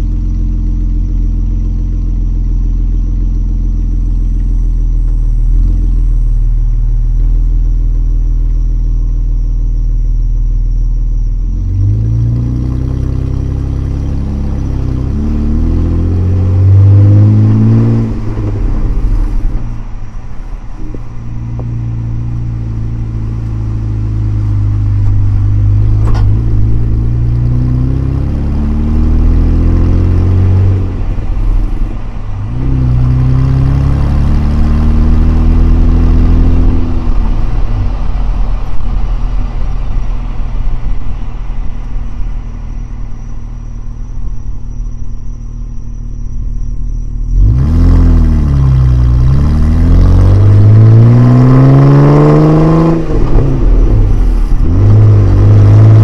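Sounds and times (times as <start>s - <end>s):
engine exhaust note revving: 0.0s - 56.0s.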